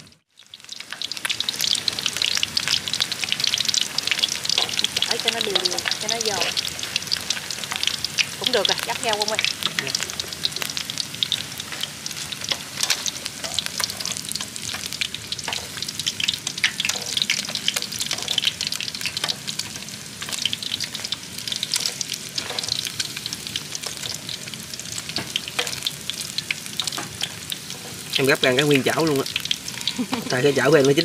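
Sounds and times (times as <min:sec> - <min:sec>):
fish frying in oil: 0:00.0 - 0:31.0
oil popping and crackling: 0:00.0 - 0:31.0.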